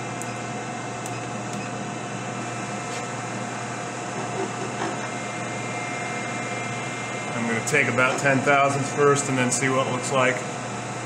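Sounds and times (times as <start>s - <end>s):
milling machine spindle humming: 0.0s - 11.0s.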